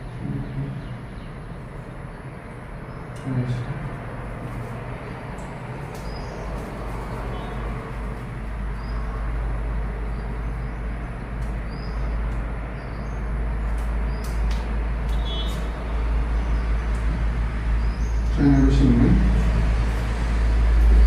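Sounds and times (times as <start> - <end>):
low road traffic rumble: 0.0 - 21.0.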